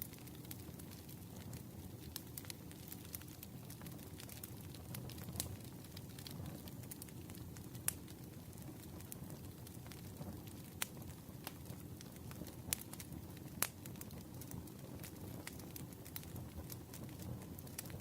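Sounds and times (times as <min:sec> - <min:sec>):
bonfire rumble: 0:00.0 - 0:18.0
fire crackles and pops: 0:00.0 - 0:18.0.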